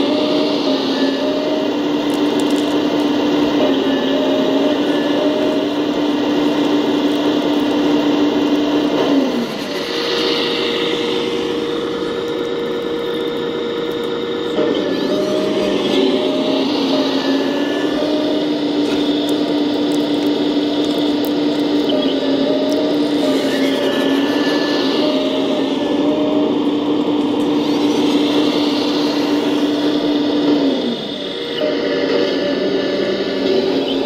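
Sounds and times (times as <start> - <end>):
model excavator motor whine: 0.0 - 34.0.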